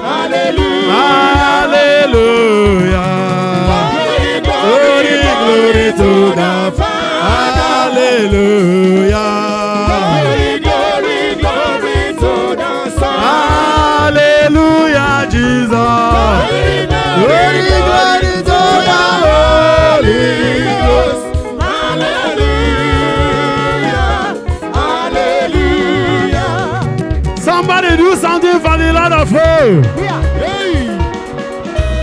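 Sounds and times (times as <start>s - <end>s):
gospel worship music: 0.0s - 32.0s.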